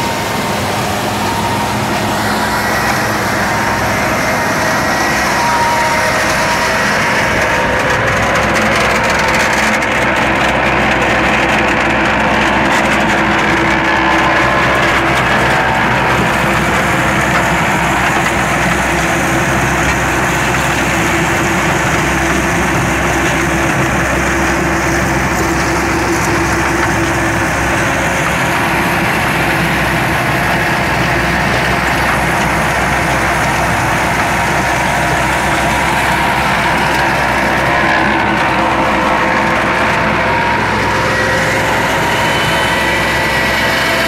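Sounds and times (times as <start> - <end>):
stone crusher working: 0.0 - 44.0
tractor running: 0.0 - 44.0.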